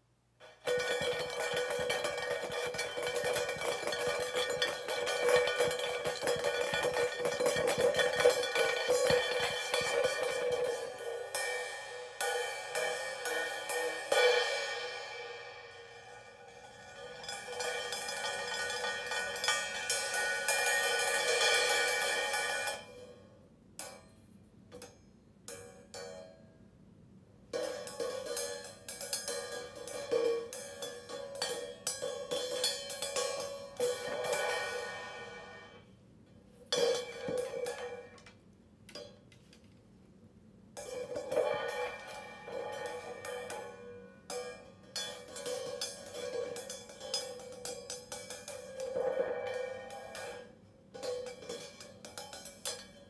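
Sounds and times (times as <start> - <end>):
cymbals ringing washes: 0.7 - 22.9, 27.7 - 35.9, 40.8 - 53.0.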